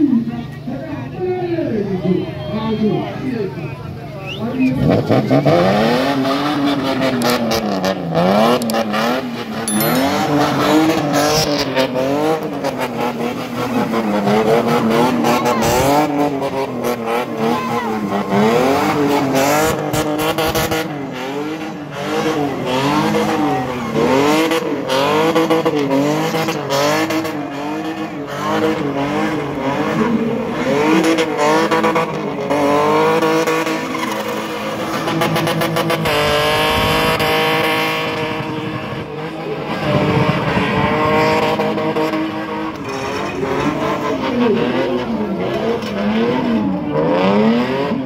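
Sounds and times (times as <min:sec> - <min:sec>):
car engine revving: 0:04.8 - 0:09.6, 0:10.2 - 0:48.0.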